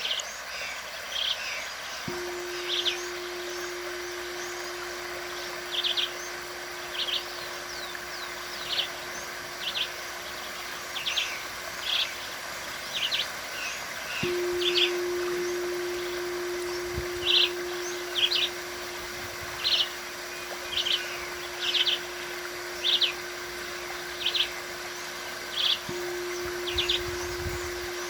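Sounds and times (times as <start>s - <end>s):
steady background hiss: 0.0s - 28.0s
singing bowl ringing: 2.0s - 28.0s
birds chirping: 2.1s - 28.0s.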